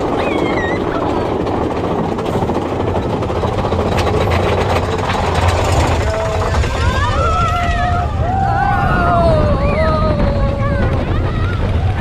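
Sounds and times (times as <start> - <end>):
roller coaster cars rumbling and rattling: 0.0 - 12.0
wind buffeting microphone: 0.0 - 12.0.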